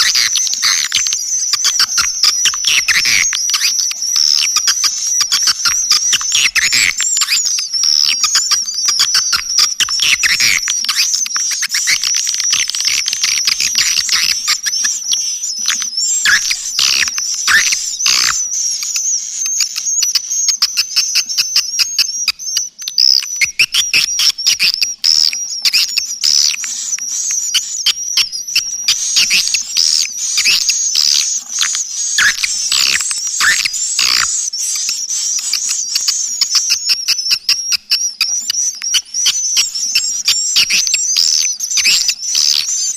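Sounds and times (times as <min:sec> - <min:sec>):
swiftlets chirping: 0:00.0 - 0:42.9.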